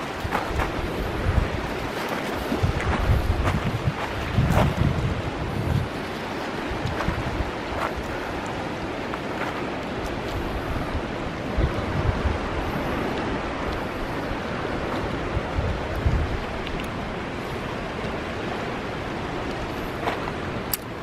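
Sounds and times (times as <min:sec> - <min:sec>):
sea surf on rocky shore: 0:00.0 - 0:21.0
wind buffeting microphone: 0:00.0 - 0:21.0.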